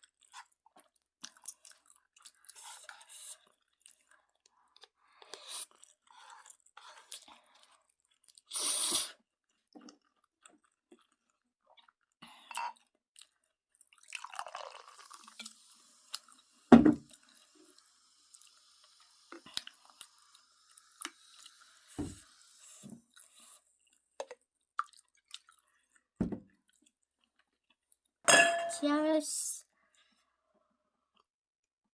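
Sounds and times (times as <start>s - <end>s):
person chewing noodles: 0.0s - 16.5s, 17.1s - 21.9s, 22.5s - 27.8s.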